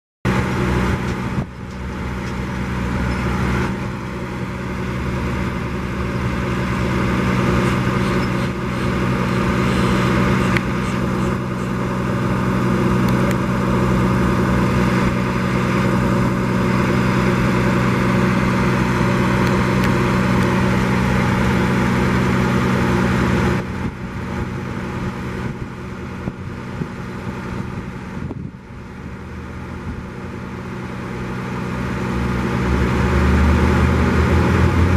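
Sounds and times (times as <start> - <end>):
diesel truck engine humming: 0.3 - 34.9.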